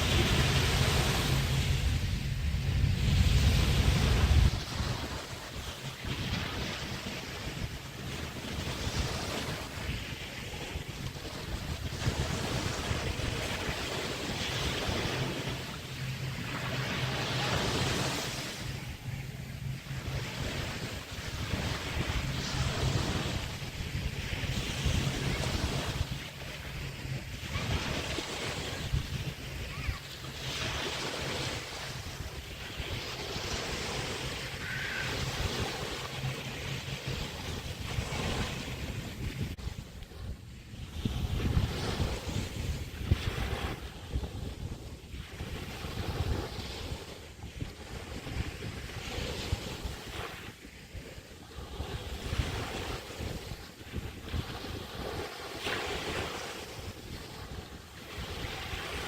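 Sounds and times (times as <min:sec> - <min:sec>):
small waves breaking on shore: 0:00.0 - 0:59.0
wind rumbling on microphone: 0:00.0 - 0:59.0.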